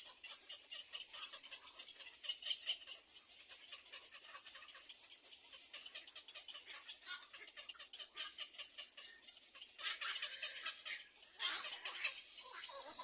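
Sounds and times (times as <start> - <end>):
nestlings chattering: 0.0 - 13.0.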